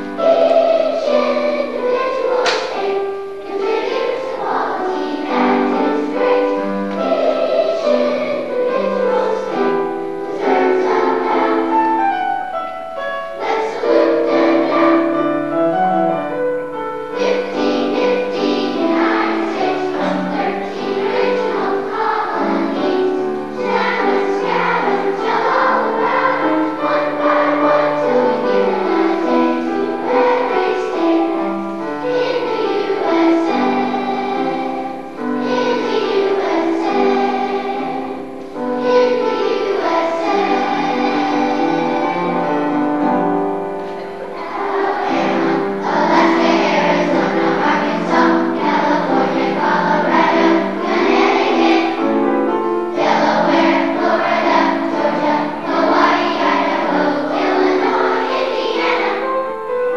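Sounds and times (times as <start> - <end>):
children's choir singing: 0.0 - 59.9
piano accompaniment: 0.0 - 59.9.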